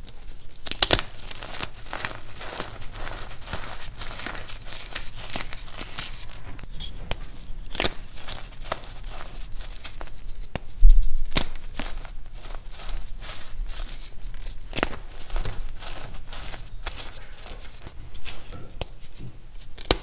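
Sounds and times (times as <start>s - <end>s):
chalk crunching in hands: 0.0s - 18.2s.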